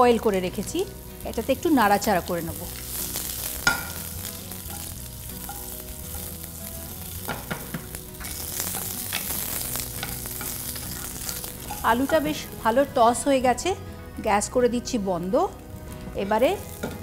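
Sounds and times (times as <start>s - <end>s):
potatoes sizzling in oil: 0.0s - 13.4s, 14.4s - 17.0s.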